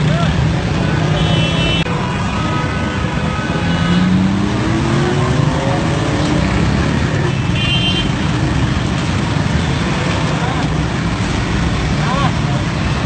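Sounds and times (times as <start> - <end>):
motorcycle and car engines: 0.0 - 13.0.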